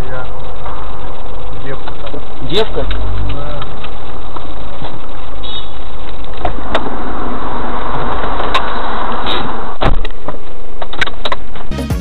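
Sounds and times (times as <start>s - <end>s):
car driving noise: 0.0s - 11.7s.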